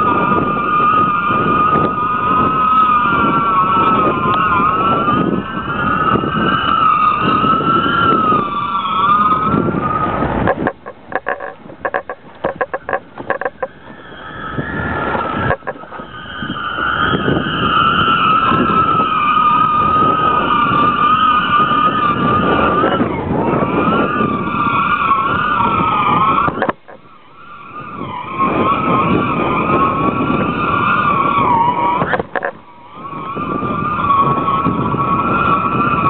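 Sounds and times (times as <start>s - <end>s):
kite rig whining in wind: 0.0s - 36.0s
wind rushing over microphone: 0.0s - 36.0s.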